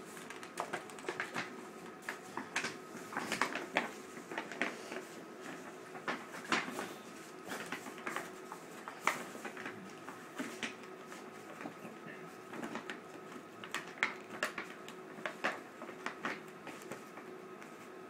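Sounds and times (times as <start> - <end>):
paper bag crinkling: 0.0 - 11.9, 12.5 - 17.9.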